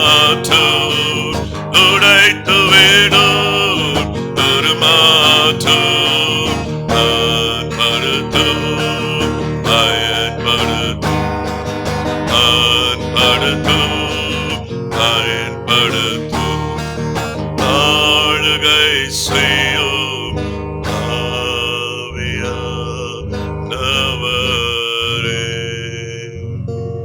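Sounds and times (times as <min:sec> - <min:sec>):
person singing a praise song: 0:00.0 - 0:11.4, 0:12.3 - 0:26.4
guitar playing: 0:00.0 - 0:27.0.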